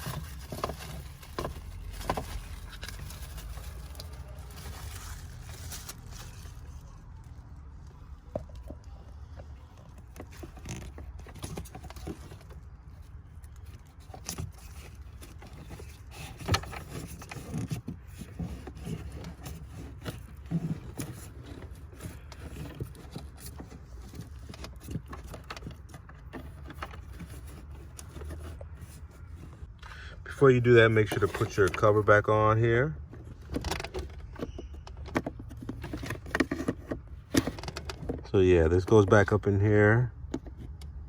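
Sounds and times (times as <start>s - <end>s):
plastic scraping and clicking: 0.0s - 41.0s.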